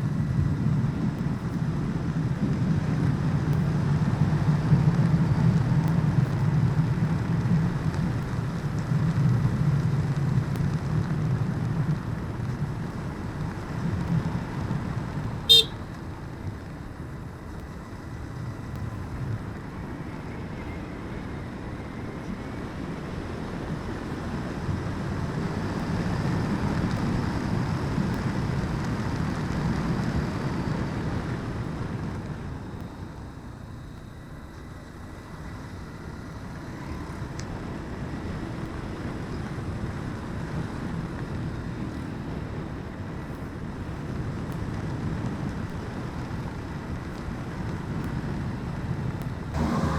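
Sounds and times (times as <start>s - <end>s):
motorcycle engine rumble: 0.0s - 49.9s.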